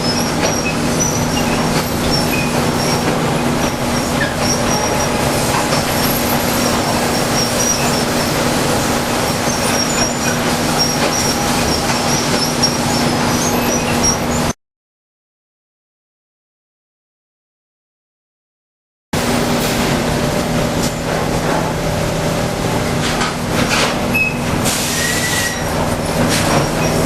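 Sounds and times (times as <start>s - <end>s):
machinery hum and rumble: 0.0s - 14.6s, 19.2s - 27.0s.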